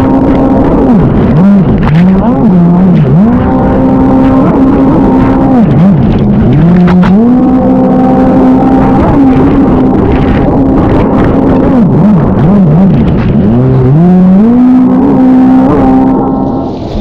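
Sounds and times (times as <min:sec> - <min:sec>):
jet ski engine running hard: 0:00.0 - 0:17.0
rushing water noise: 0:00.0 - 0:17.0.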